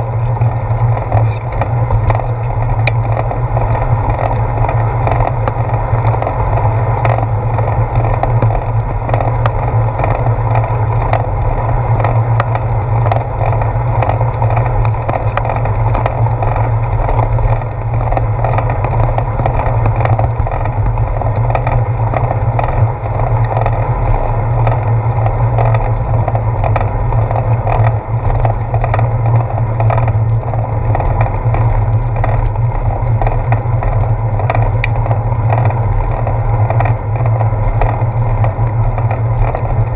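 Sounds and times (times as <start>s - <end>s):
bicycle clicks and rattles: 0.0s - 39.9s
bicycle tyres rolling: 0.0s - 39.9s
wind rumble: 0.0s - 39.9s.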